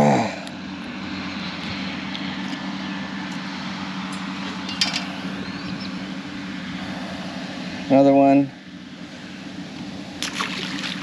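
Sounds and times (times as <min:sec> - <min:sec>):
distant vehicle engine drone: 0:00.0 - 0:11.0.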